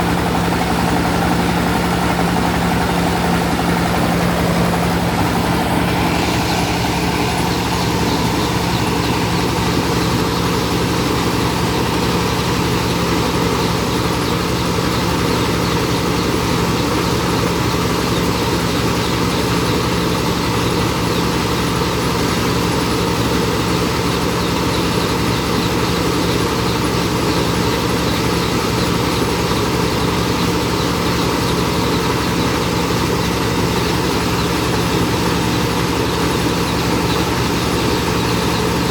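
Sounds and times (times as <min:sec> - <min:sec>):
rice milling machine running: 0:00.0 - 0:38.9.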